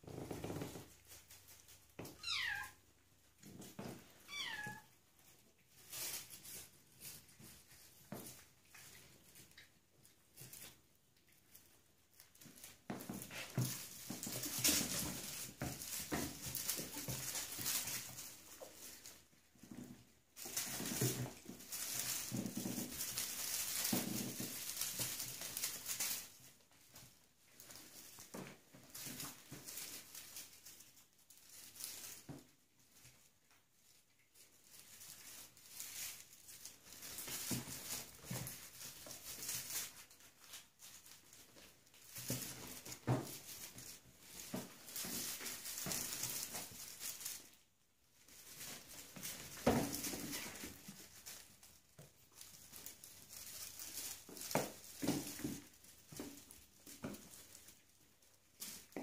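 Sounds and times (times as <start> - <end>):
kittens scrabbling and pouncing: 0.0 - 59.0.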